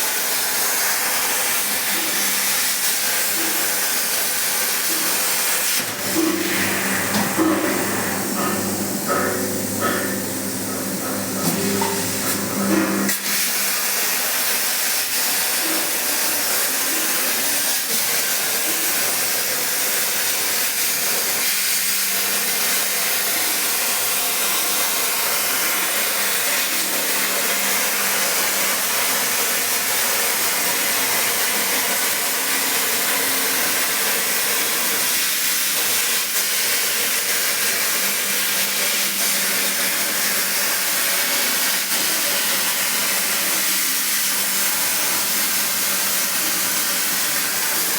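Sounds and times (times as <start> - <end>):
plasma torch hissing: 0.0 - 47.9.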